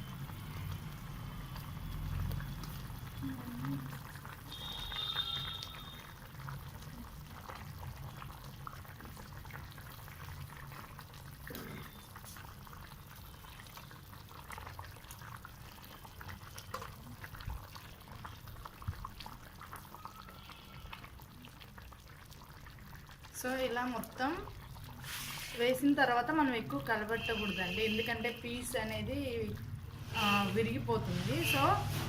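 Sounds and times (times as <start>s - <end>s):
broth bubbling in a pot: 0.0s - 32.0s.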